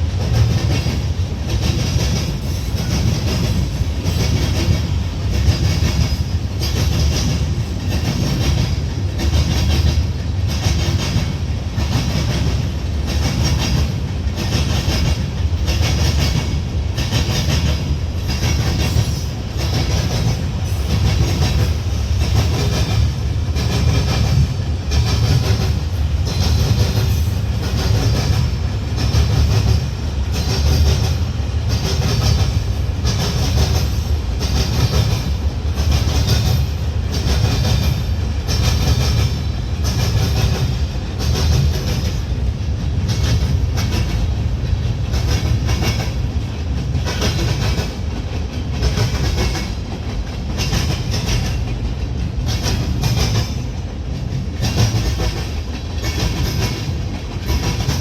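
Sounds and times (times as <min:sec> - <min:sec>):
train wheels rumbling on rails: 0:00.0 - 0:58.0
wheels clickety-clack: 0:00.0 - 0:58.0.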